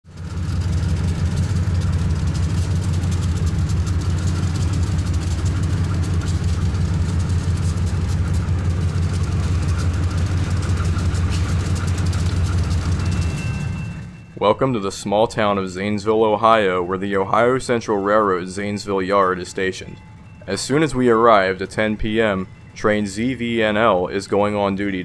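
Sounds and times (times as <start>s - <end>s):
diesel locomotive idling: 0.0s - 25.0s.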